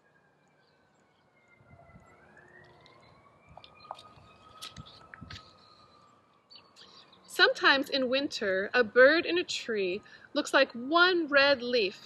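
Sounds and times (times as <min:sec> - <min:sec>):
distant siren wailing: 0:00.0 - 0:12.0.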